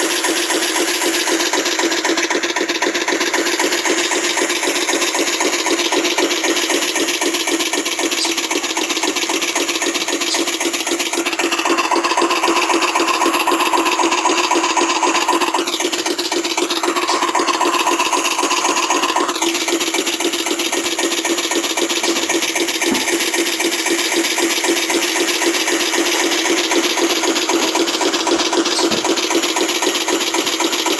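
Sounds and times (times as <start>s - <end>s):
tinny engine chugging: 0.0s - 30.9s.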